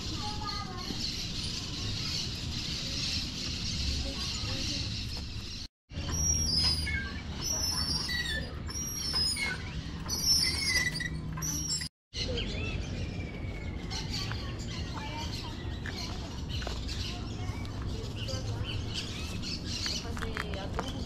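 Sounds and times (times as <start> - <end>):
birds chirping and calling: 0.0 - 21.0.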